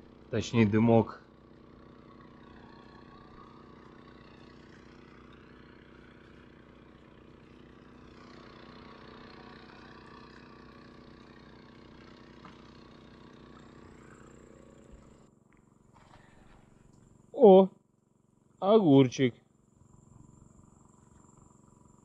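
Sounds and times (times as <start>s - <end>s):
faint engine running: 0.0s - 22.0s.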